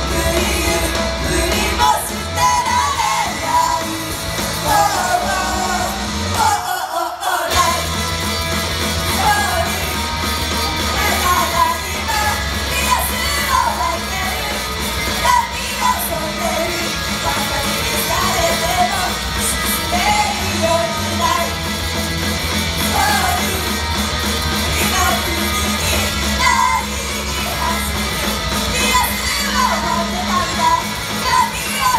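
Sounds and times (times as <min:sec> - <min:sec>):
singing over rock band: 0:00.0 - 0:31.9.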